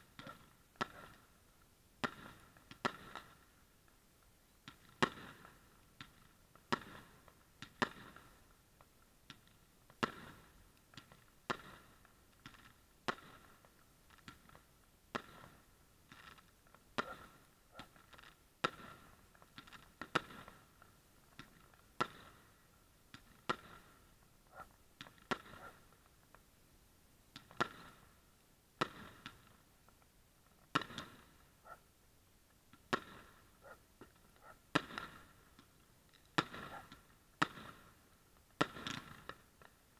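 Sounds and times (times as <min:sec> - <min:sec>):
fireworks banging: 0:00.0 - 0:01.4, 0:02.0 - 0:03.6, 0:04.6 - 0:26.5, 0:27.3 - 0:31.8, 0:32.5 - 0:39.9.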